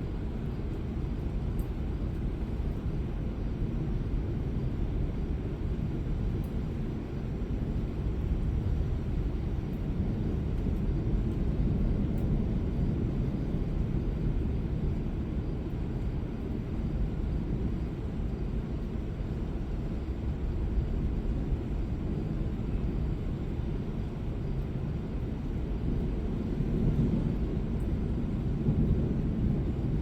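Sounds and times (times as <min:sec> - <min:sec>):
thunderstorm rumble: 0:00.0 - 0:30.0.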